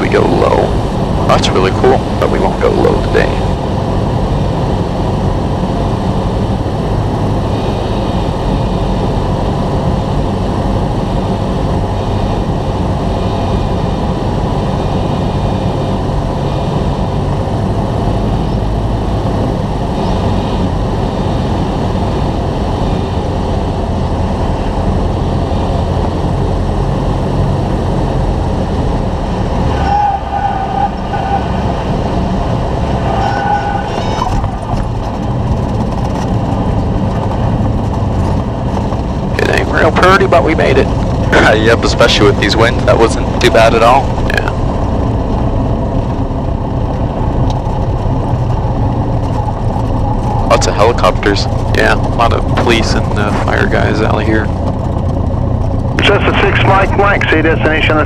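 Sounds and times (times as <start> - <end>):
propeller plane engine droning: 0.0 - 58.0
wind noise: 0.0 - 58.0.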